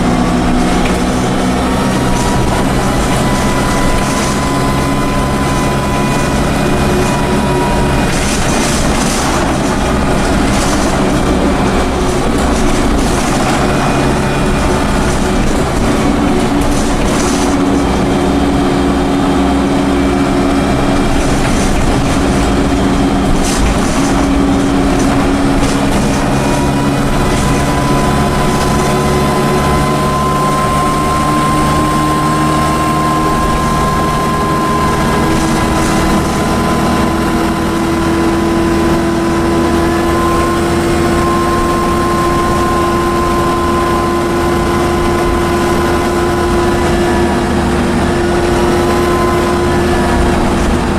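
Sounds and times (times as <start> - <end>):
bus diesel engine running: 0.0 - 50.9
high-pitched turbocharger whine: 0.0 - 50.9.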